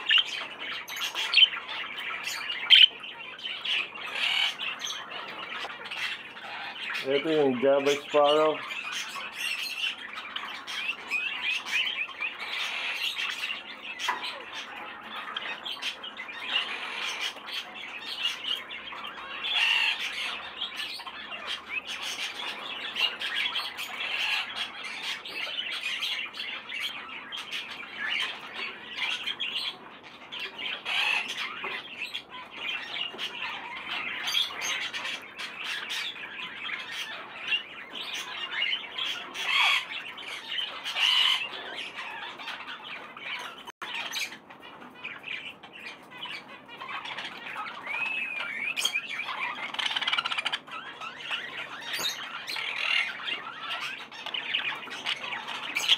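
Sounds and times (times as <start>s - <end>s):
parrots and finches calling: 0.0s - 55.9s.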